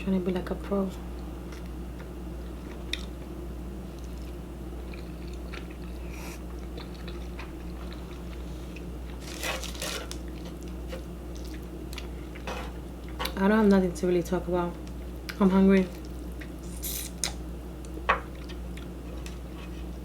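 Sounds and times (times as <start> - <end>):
chewing and crunching food: 1.4 - 13.8, 14.8 - 20.0.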